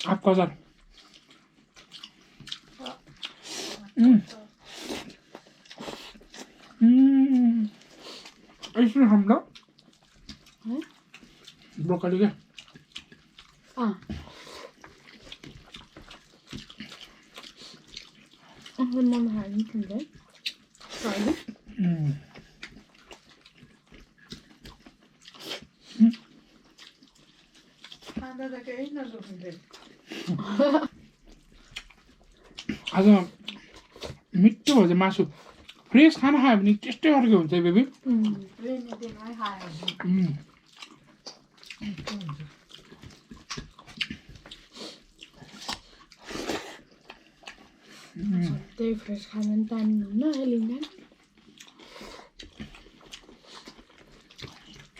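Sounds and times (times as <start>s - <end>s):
chewing and lip smacks: 0.0s - 54.9s.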